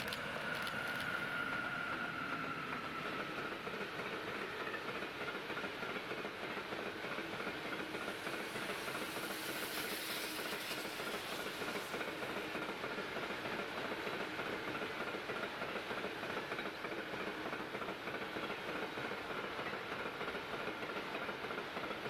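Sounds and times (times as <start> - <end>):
train wheels rolling on rails: 0.0 - 22.0.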